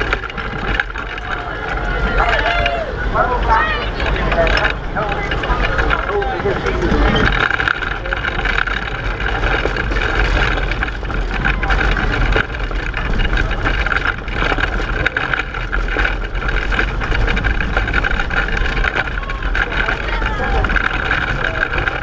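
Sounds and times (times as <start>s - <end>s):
pedal car rumbling and rattling: 0.0s - 22.0s
wind noise on microphone: 0.0s - 22.0s.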